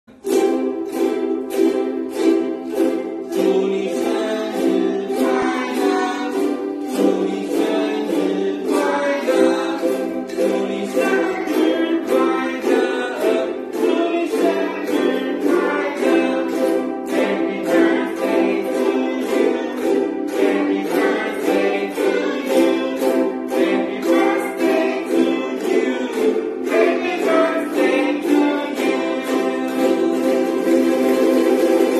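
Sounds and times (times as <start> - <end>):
children strumming ukuleles: 0.0 - 31.9
voices singing along: 0.4 - 30.8.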